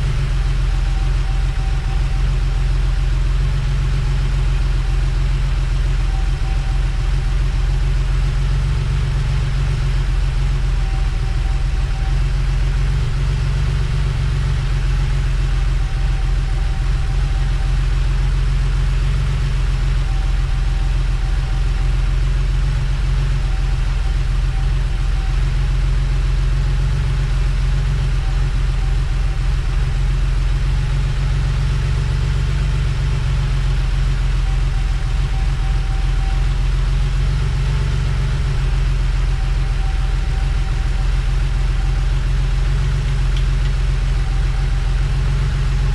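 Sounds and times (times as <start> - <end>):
faint higher tone: 0.0 - 45.9.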